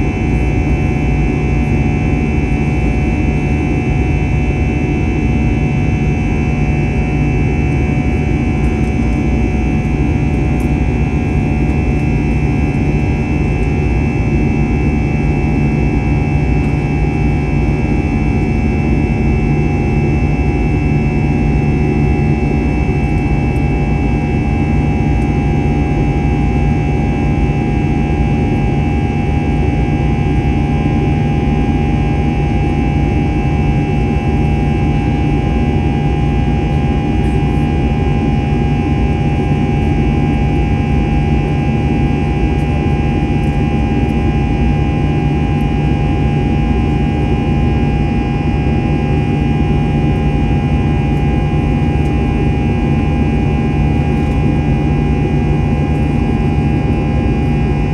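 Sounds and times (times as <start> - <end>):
humming and whining tones: 0.0 - 57.9
jet engine cabin roar: 0.0 - 57.9.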